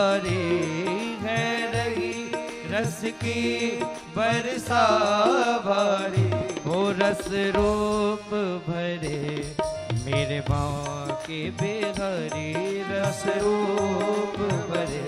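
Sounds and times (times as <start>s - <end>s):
keyboard: 0.0s - 15.0s
man singing: 0.0s - 15.0s
tabla: 0.0s - 15.0s.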